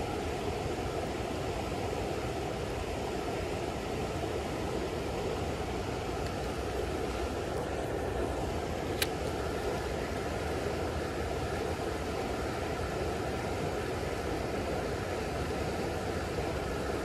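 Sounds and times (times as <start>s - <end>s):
creek flowing over rocks: 0.0s - 17.0s.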